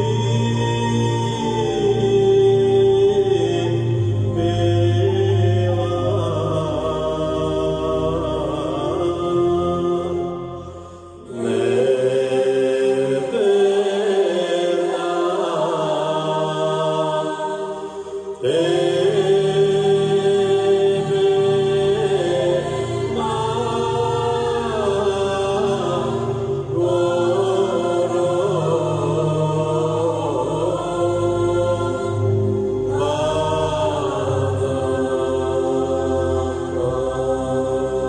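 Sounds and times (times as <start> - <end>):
choir singing a cappella: 0.0 - 38.0.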